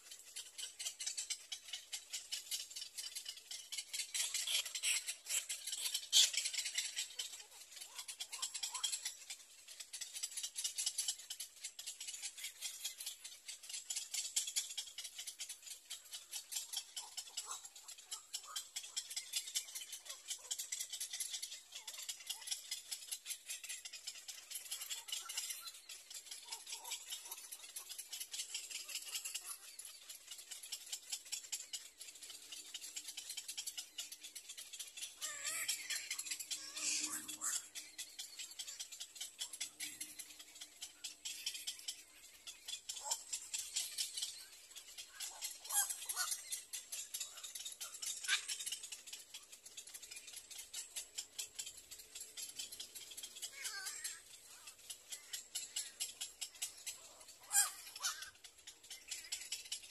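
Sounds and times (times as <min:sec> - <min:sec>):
faint calls: 0:00.0 - 0:59.9
rapid high-pitched clicks: 0:00.0 - 0:59.9.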